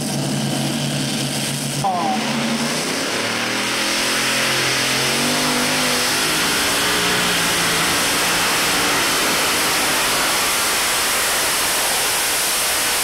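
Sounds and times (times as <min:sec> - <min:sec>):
tractor engine running flat out: 0:00.0 - 0:13.0.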